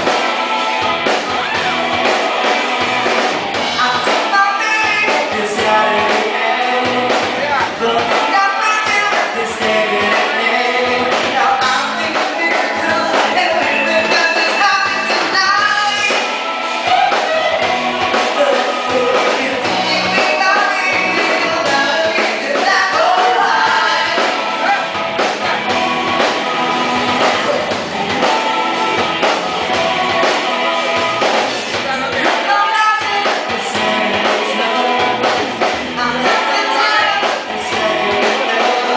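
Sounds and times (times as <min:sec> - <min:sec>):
electric guitar: 0:00.0 - 0:38.9
live band playing: 0:00.0 - 0:38.9
person singing: 0:03.7 - 0:25.7, 0:26.5 - 0:38.9.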